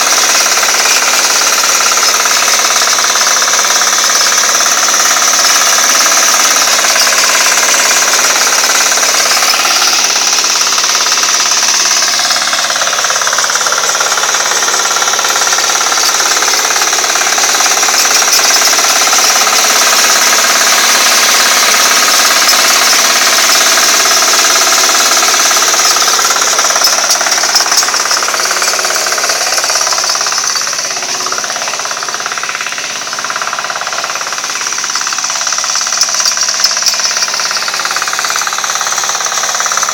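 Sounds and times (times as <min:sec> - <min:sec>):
rotary tiller churning soil: 0:00.0 - 0:39.9
tractor engine running: 0:00.0 - 0:39.9.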